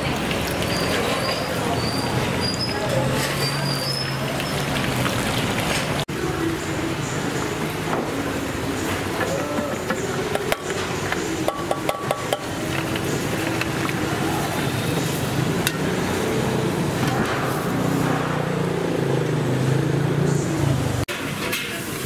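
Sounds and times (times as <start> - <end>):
street noise din: 0.0 - 22.0.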